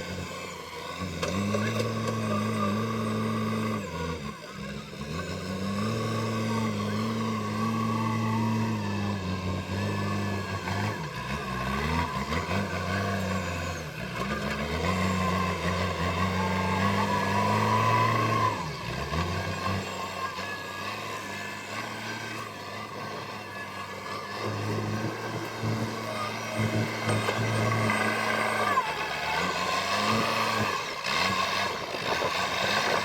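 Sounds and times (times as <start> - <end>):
diesel engine working under load: 0.0 - 33.0.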